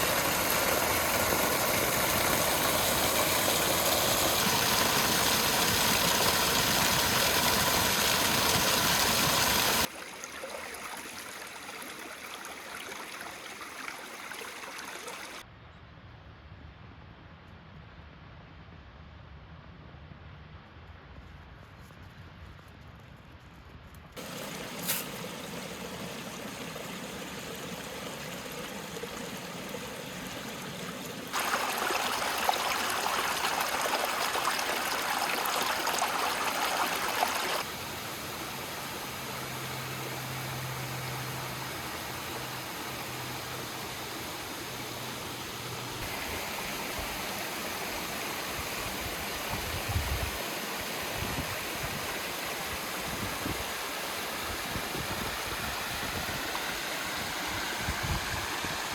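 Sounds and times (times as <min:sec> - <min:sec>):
water rushing over rocks: 0:00.0 - 0:15.4, 0:24.2 - 0:58.9.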